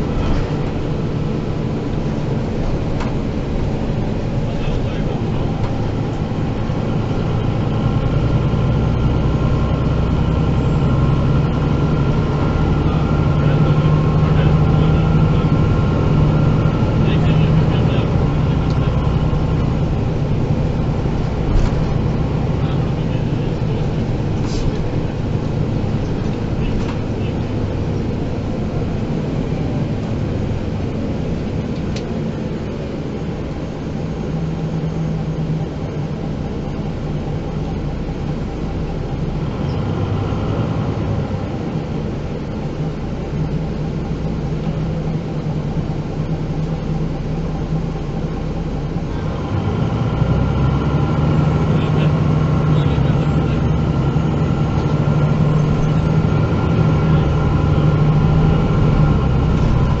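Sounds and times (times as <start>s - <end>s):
bus diesel engine humming: 0.0s - 60.0s.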